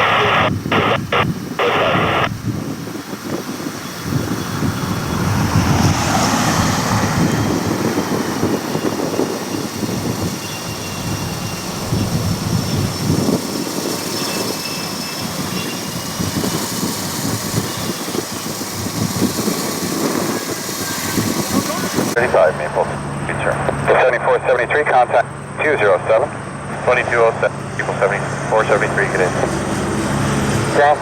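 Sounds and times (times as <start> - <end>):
faint engine whine: 0.0 - 31.0
jet engine roar: 0.0 - 31.0.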